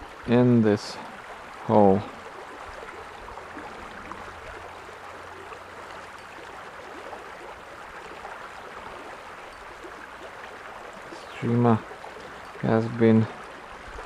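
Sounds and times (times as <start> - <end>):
small stream running: 0.0 - 14.0.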